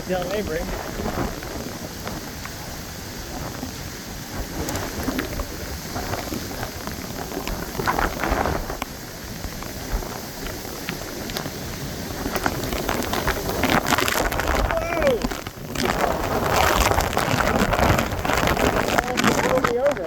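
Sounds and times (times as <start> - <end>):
heavy rain falling: 0.0 - 20.0
raindrop taps: 0.0 - 20.0
wind rumbling on microphone: 0.0 - 20.0.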